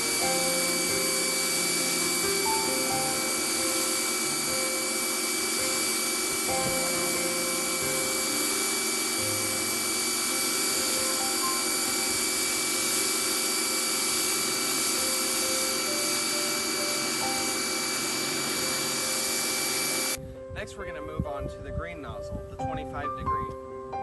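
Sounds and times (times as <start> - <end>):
pressure washer spraying: 0.0 - 20.2.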